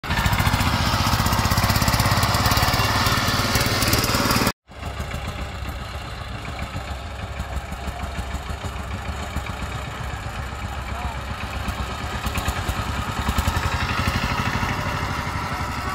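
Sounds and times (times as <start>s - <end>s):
diesel engine running: 0.0s - 15.9s.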